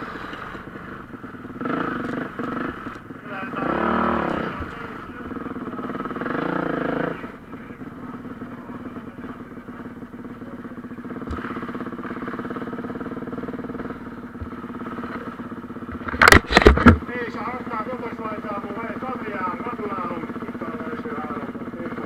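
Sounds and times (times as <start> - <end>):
motocross bike engines: 0.0 - 22.0.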